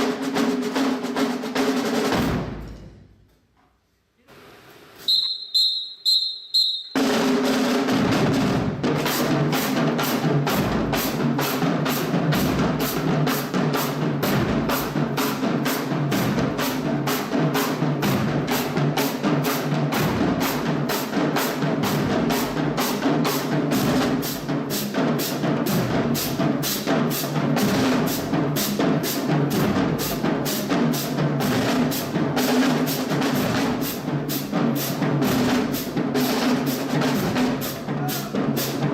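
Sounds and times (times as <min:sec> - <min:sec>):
snare and bass drum cadence: 0:00.0 - 0:03.2, 0:04.4 - 0:38.9.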